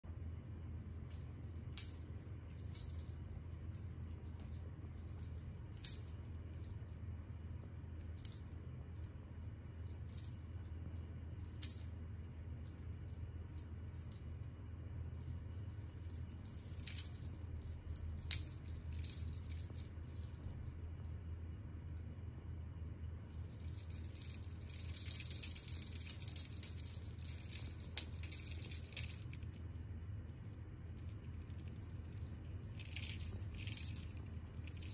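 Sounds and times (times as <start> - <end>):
steady low hum: 0.0 - 34.9
small bell jingling: 0.8 - 34.9.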